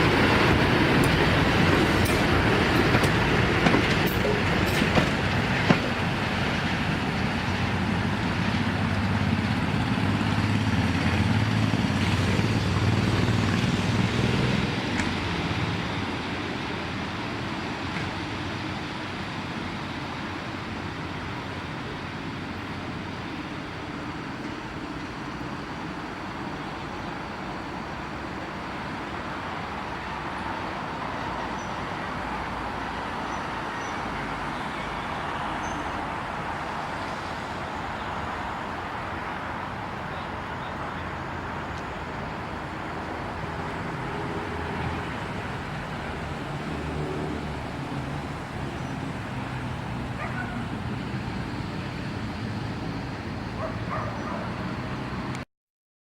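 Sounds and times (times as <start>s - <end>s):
electric locomotive running: 0.0s - 54.9s.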